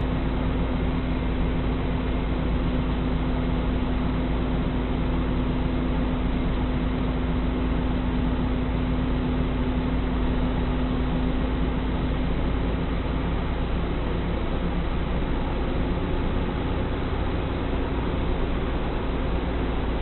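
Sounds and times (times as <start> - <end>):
vehicle road and engine noise: 0.0 - 20.0.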